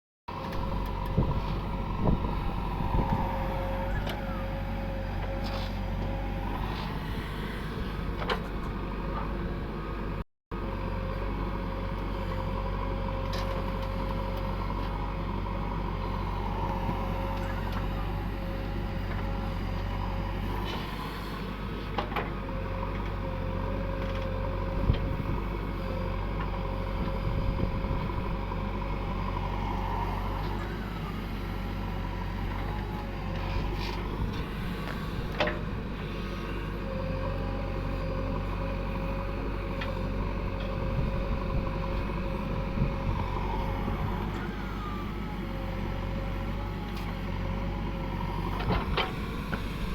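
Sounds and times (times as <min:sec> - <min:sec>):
diesel engine running: 0:00.3 - 0:49.9.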